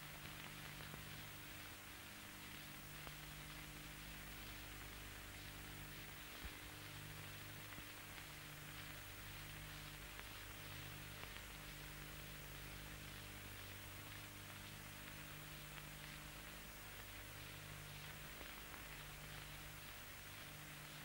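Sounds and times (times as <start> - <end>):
low electrical hum: 0.0 - 21.0
tape hiss: 0.0 - 21.0.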